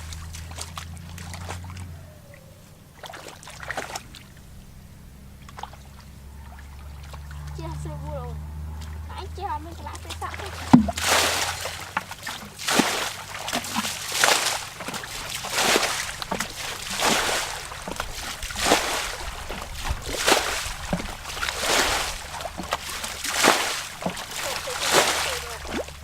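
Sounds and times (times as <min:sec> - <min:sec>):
water splashing rhythmically: 0:00.0 - 0:26.0.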